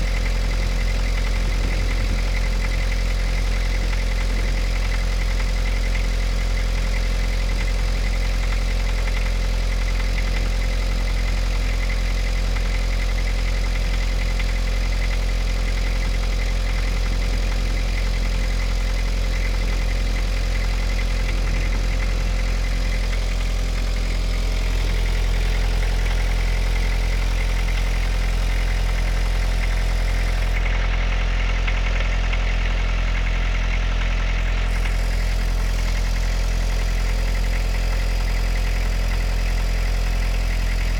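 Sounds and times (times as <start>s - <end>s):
diesel engine idling with knock: 0.0s - 40.9s.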